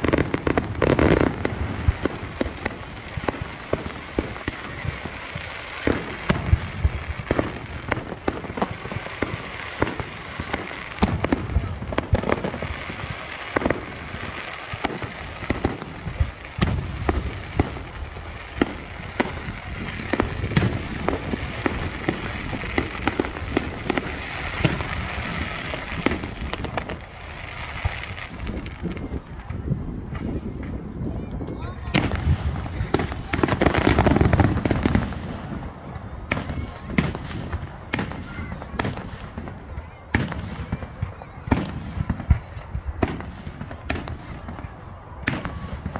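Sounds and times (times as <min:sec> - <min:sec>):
continuous crackle: 0:00.0 - 0:45.9.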